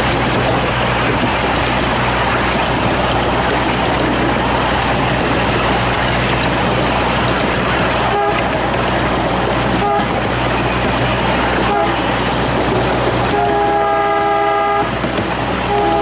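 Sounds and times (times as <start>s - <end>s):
locomotive toots: 0.0s - 16.0s
small train running on track: 0.0s - 16.0s.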